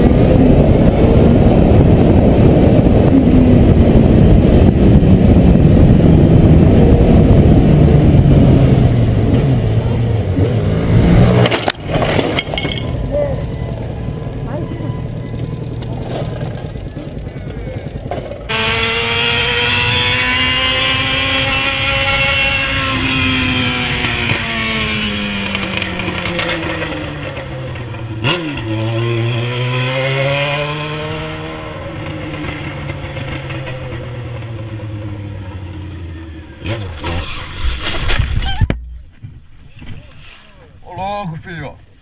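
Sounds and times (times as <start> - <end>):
motorcycle engine revving: 0.0 - 38.2.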